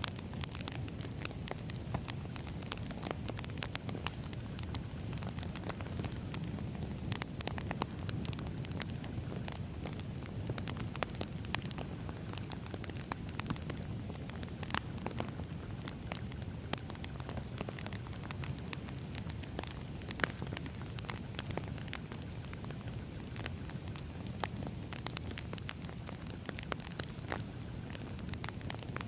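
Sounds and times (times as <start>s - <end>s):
low rumble of flames: 0.0s - 29.0s
wood fire crackling: 0.0s - 29.0s.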